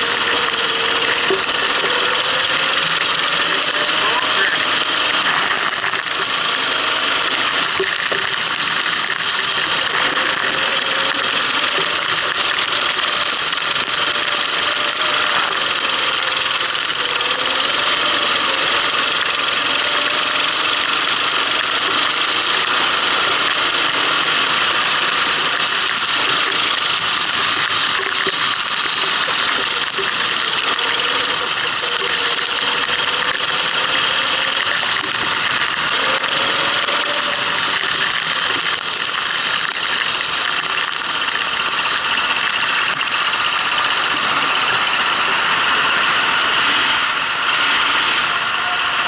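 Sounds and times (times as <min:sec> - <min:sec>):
kart engine running: 0:00.0 - 0:49.0.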